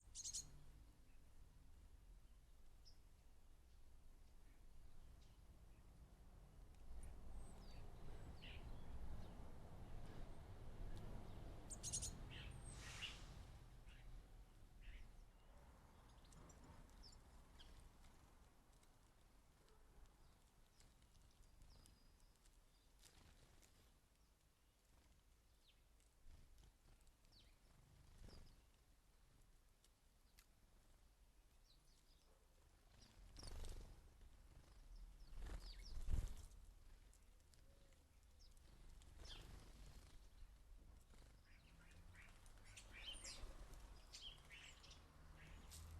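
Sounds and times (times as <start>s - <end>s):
small birds chirping: 0.0s - 1.5s, 2.2s - 45.9s.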